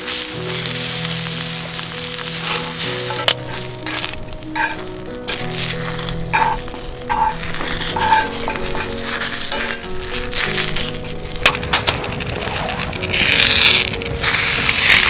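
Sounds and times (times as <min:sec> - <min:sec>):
utensils clinking and knocking: 0:00.0 - 0:12.2
background music: 0:00.0 - 0:15.0
sizzling hiss: 0:00.0 - 0:15.0.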